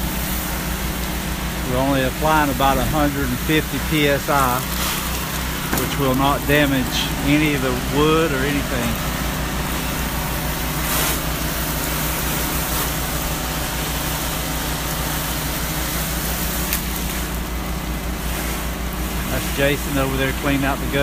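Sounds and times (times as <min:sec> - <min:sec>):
pump pulsing: 0:00.0 - 0:21.0
spray hissing: 0:00.0 - 0:21.0.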